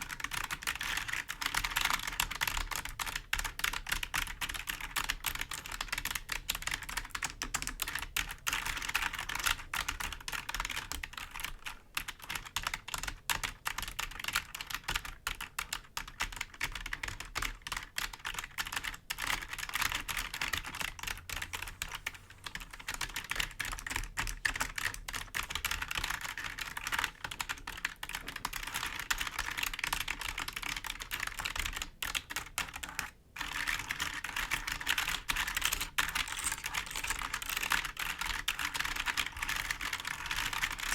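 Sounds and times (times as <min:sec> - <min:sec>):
computer keyboard clicking: 0:00.0 - 0:40.9.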